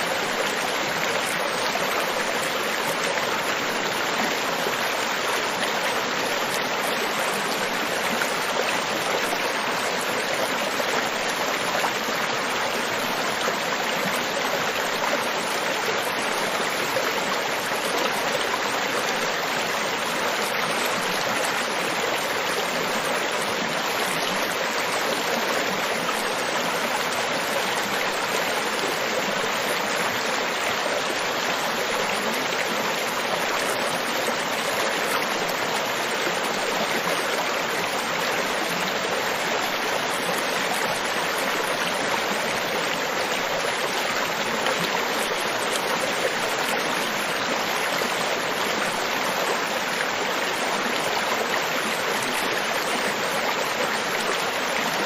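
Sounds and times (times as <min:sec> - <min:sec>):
rush of water: 0:00.0 - 0:55.0.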